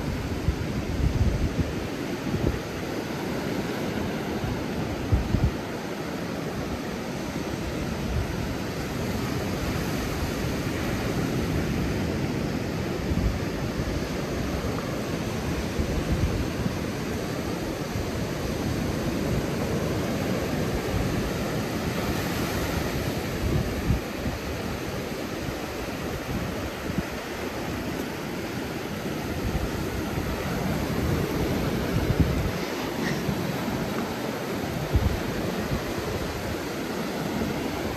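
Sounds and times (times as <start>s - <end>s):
wind and surf rushing: 0.0s - 37.9s
wind gusts buffeting microphone: 0.0s - 37.9s.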